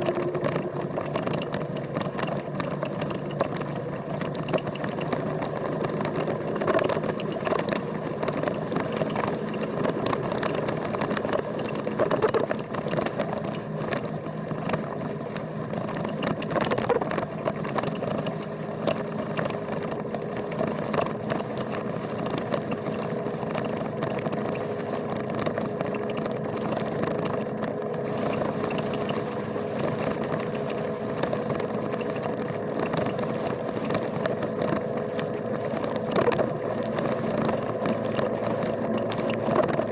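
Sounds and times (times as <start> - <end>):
motorcycle engine running: 0.0 - 39.9
small knocks and rattles: 0.0 - 39.9.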